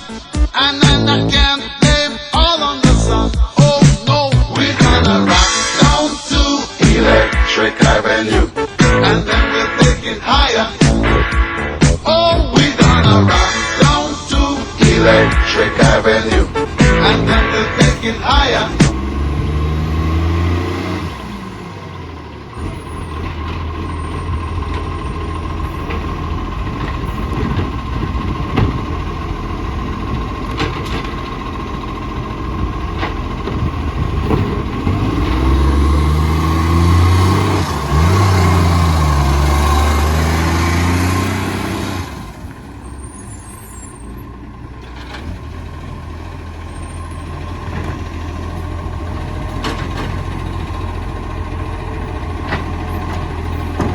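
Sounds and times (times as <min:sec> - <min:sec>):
diesel engine revving and idling: 0:00.0 - 0:53.9.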